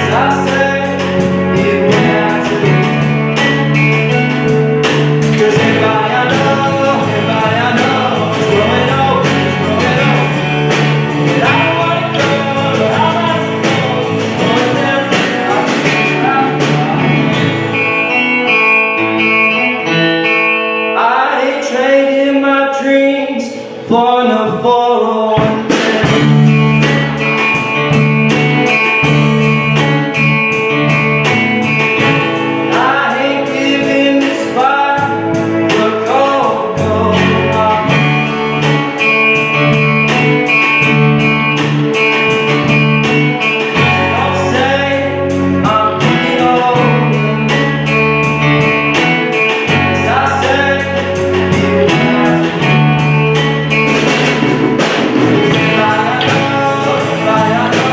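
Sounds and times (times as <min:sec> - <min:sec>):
person singing over a band: 0:00.0 - 0:17.8, 0:21.0 - 0:27.9, 0:32.0 - 0:41.0, 0:42.0 - 0:57.9
steady drum beat: 0:00.0 - 0:18.7, 0:25.4 - 0:57.9
bass line: 0:00.0 - 0:22.0, 0:23.2 - 0:57.9.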